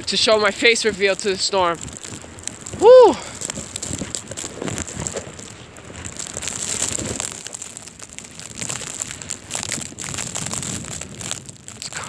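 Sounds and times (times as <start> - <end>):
blizzard wind buffeting microphone: 0.0 - 12.0
crackling and rustling of handling: 0.0 - 12.0.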